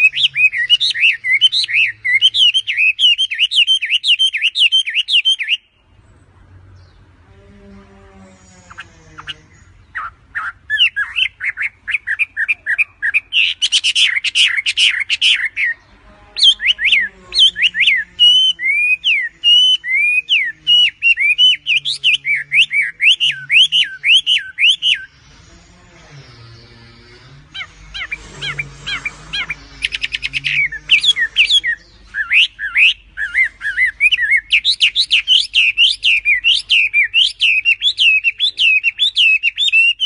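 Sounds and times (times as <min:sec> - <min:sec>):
bird chirping: 0:00.0 - 0:40.0
faint low hum: 0:05.6 - 0:40.0.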